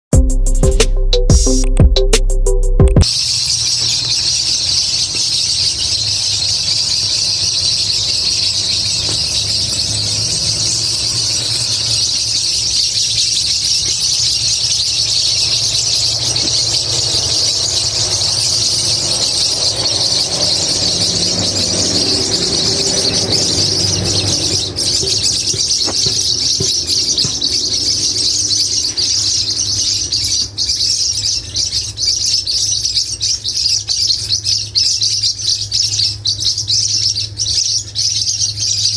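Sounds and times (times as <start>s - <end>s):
parrots screeching and chattering: 3.0s - 38.9s.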